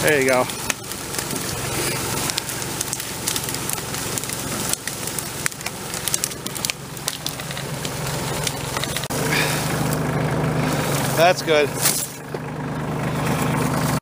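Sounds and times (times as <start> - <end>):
footsteps crunching dry leaves: 0.0 - 12.2
tractor engine running: 0.0 - 14.0.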